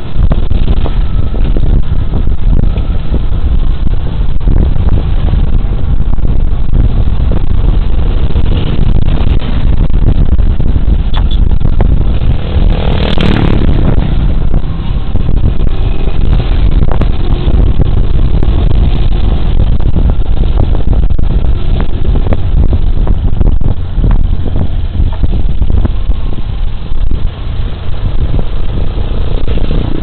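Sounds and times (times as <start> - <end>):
scooter engine and road rumble: 0.0 - 30.0
wind buffeting microphone: 0.0 - 30.0.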